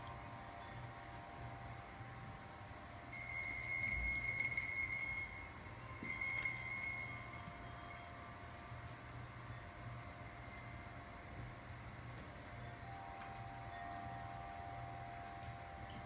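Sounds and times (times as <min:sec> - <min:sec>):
chime-like ringing tones: 0:00.0 - 0:11.4, 0:12.5 - 0:16.0
steady low hum: 0:00.0 - 0:16.0.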